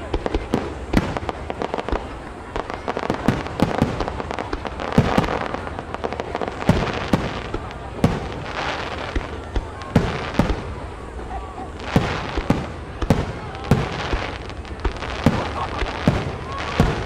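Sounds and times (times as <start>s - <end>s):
fireworks rumble and crackle: 0.0s - 17.0s.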